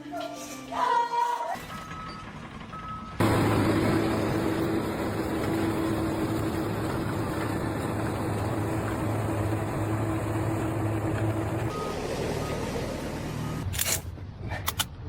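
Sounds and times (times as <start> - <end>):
large engine running steadily: 1.6 - 15.0.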